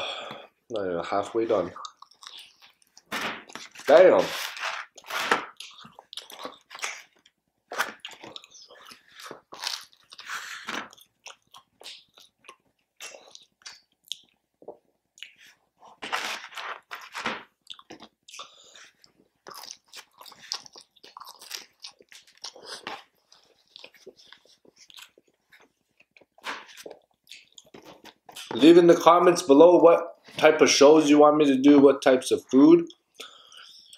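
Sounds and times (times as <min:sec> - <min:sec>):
person chewing crunchy food: 0:01.7 - 0:28.6, 0:32.9 - 0:33.9.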